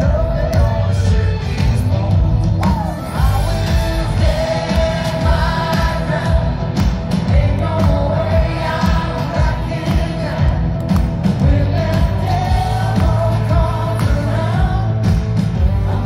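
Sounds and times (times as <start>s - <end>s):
drum and bass beat: 0.0s - 16.0s
electric guitar: 0.0s - 16.0s
keyboard: 0.0s - 16.0s
person singing lead vocals: 0.0s - 16.0s.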